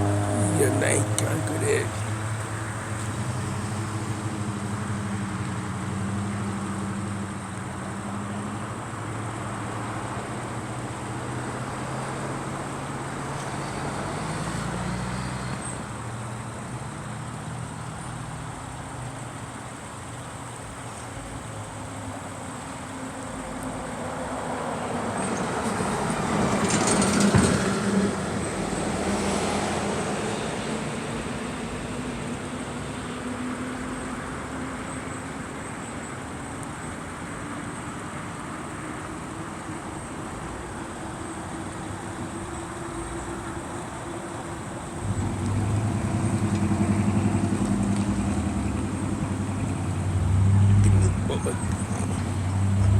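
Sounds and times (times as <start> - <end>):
vehicles driving past: 0.0 - 52.9.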